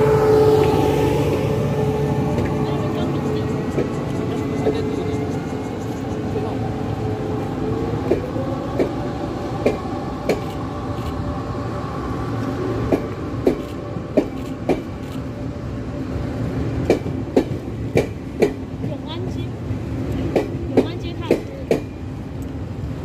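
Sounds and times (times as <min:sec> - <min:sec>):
train rumble and hum: 0:00.0 - 0:23.0.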